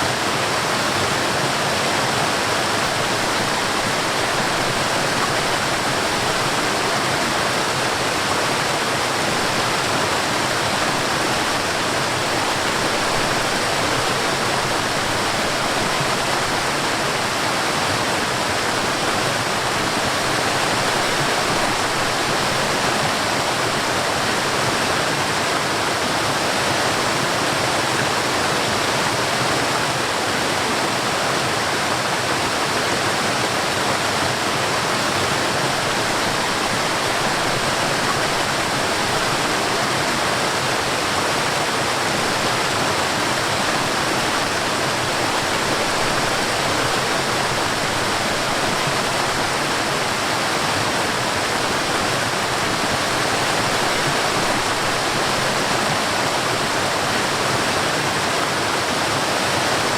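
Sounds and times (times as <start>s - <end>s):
stream and waterfall rushing: 0.0s - 59.9s.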